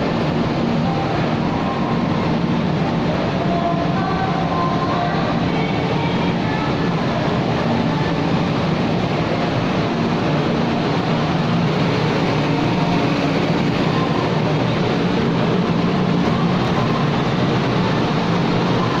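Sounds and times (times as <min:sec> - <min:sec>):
low engine hum: 0:00.0 - 0:19.0
ship rushing noise: 0:00.0 - 0:19.0.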